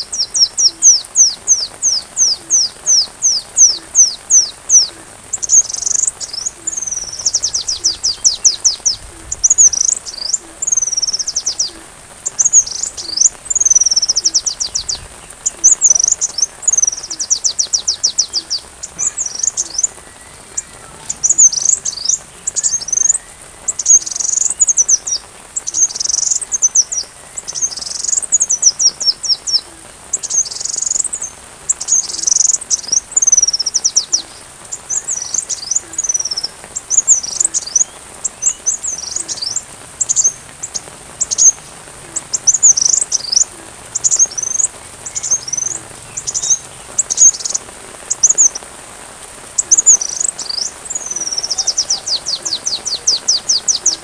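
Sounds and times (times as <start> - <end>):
bird chirping: 0.0 - 48.7, 49.4 - 54.0
rain patter: 0.0 - 54.0.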